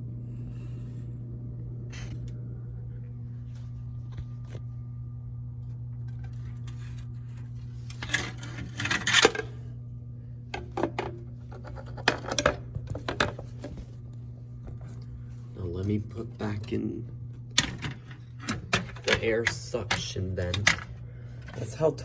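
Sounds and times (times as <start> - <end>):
low hum of hvac unit: 0.0 - 22.0.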